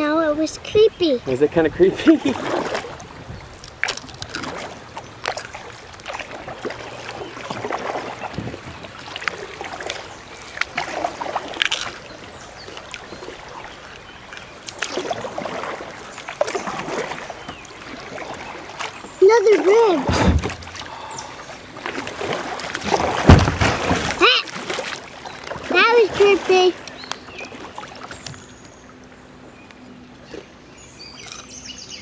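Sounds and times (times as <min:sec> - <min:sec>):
river water rippling and splashing: 0:00.0 - 0:32.0
small splashes and knocks: 0:02.0 - 0:30.5.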